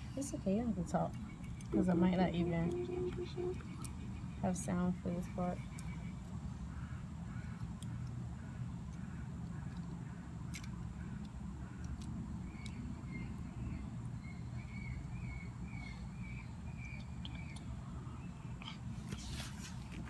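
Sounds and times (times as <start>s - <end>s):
low outdoor rumble: 0.0s - 20.0s
small bird chirping: 0.4s - 6.9s, 8.9s - 18.8s.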